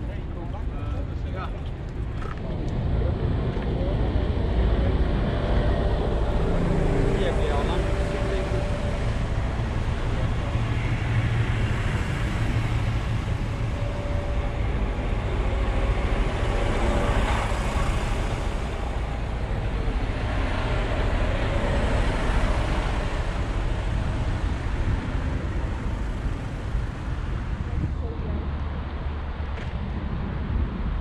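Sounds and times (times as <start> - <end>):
bus diesel engines rumbling: 0.0 - 31.0.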